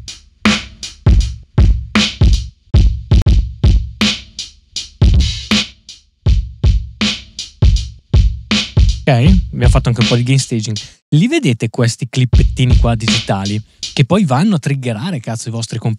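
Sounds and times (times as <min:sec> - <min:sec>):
drum loop with kick and snare: 0:00.0 - 0:11.0, 0:12.2 - 0:14.8.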